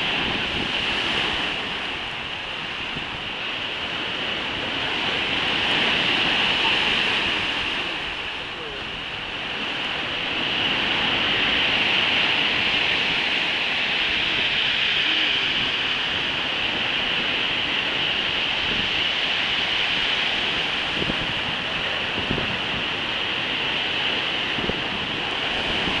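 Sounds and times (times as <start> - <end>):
surf breaking on shore: 0.0 - 26.0.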